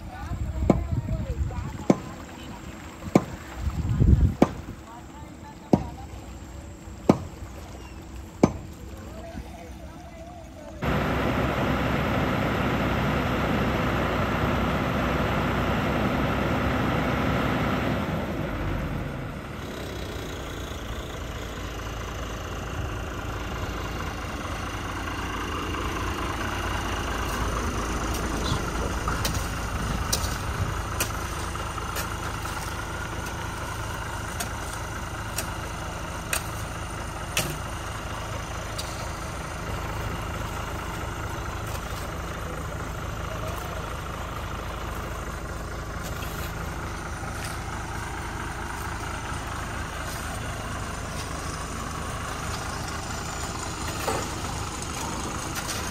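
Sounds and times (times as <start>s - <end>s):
diesel truck engine idling: 0.0s - 55.9s.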